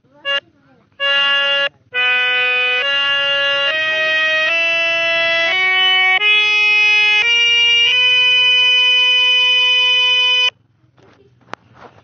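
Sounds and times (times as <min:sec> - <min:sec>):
sustained electronic keyboard notes: 0:00.0 - 0:10.6.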